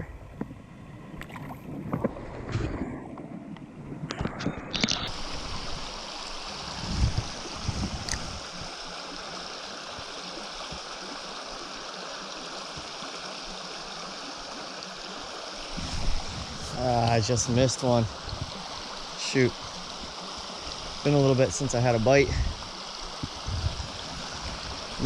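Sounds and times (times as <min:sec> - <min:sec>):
creek water running: 0:01.1 - 0:25.0.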